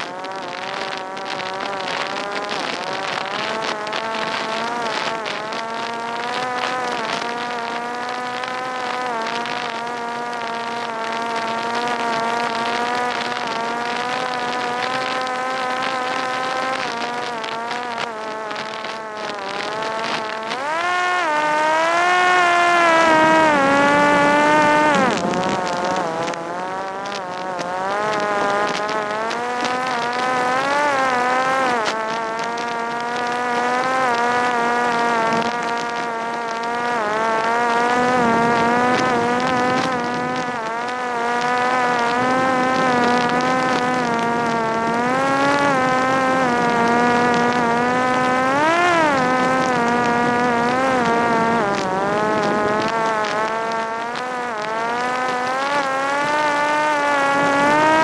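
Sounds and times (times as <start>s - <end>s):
drone motor buzzing whine: 0.0s - 58.0s.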